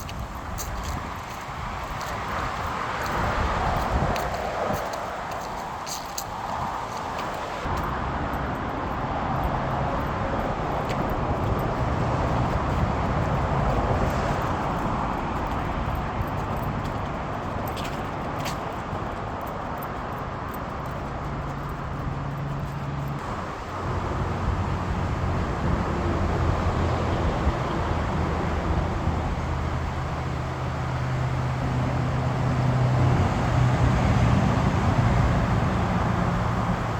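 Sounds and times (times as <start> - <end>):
engine hum: 0.0 - 36.9
road noise: 0.0 - 36.9.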